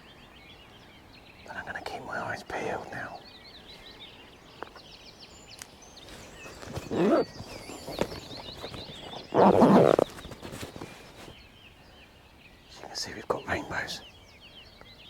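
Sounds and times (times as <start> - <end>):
small birds singing: 0.0 - 15.0.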